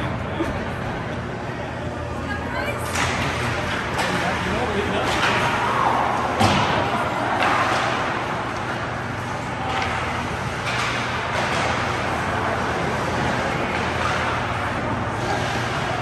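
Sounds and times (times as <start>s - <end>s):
ice hockey arena din: 0.0s - 16.0s.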